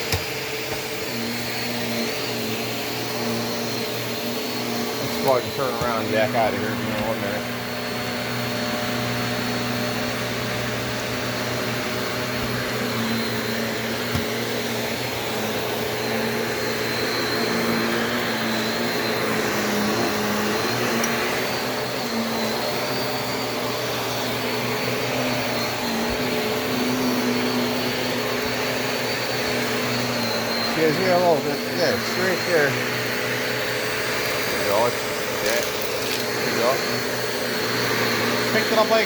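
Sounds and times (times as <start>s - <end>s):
upright vacuum running: 0.0s - 39.0s.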